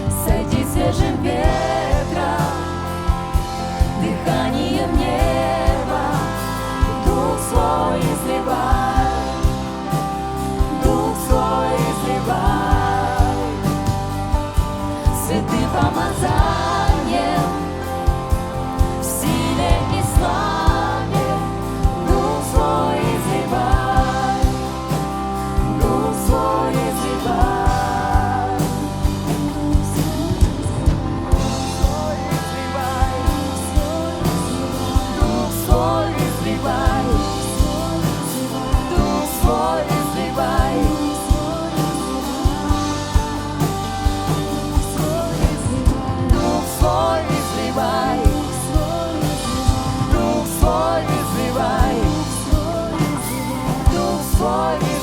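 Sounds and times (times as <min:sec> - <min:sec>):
person singing: 0:00.0 - 0:55.0
worship song by a band: 0:00.0 - 0:55.0.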